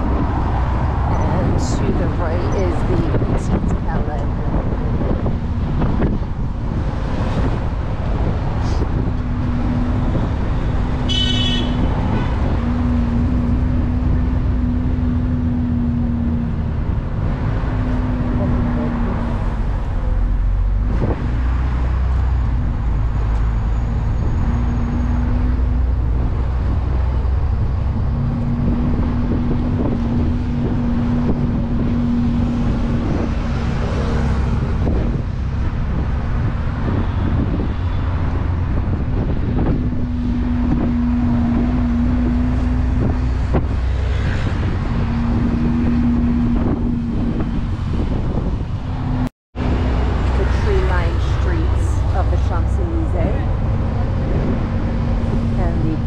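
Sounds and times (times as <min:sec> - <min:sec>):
bus engine and road rumble: 0:00.0 - 0:56.0
wind buffeting microphone: 0:00.0 - 0:56.0.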